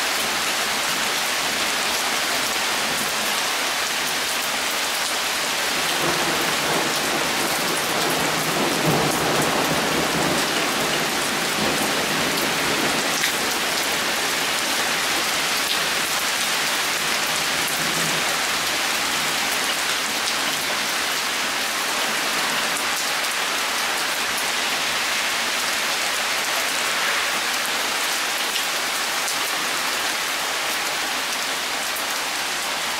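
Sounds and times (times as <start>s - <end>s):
rain pattering: 0.1s - 29.6s.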